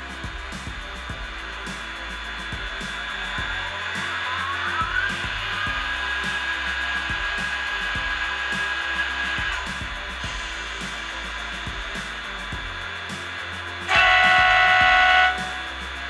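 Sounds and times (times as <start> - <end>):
background music: 0.0 - 16.0
model locomotive whirring whine: 0.0 - 16.0.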